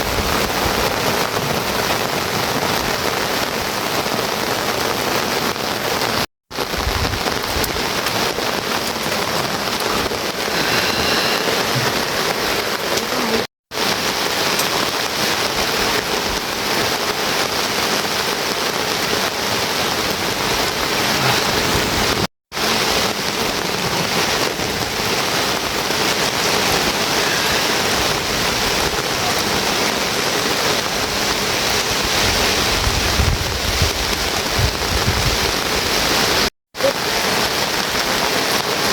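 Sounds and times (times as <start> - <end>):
heavy rainfall: 0.0 - 38.9.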